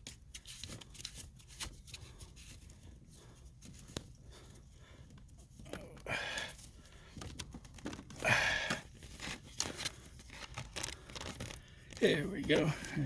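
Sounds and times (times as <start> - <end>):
hands handling plastic parts: 0.0 - 13.0.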